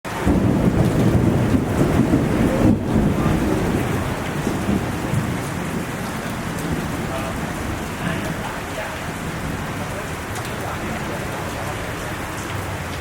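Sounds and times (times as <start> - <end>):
heavy rain falling: 0.1 - 13.0.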